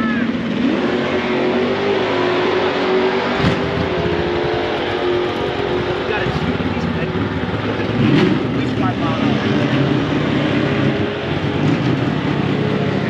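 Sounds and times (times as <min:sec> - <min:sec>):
race car engine at high rpm: 0:00.0 - 0:13.0.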